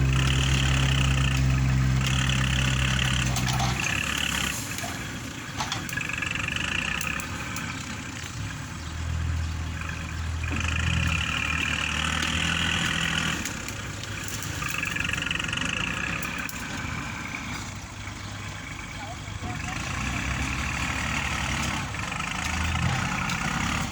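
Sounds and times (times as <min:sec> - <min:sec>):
tractor diesel engine: 0:00.0 - 0:23.9.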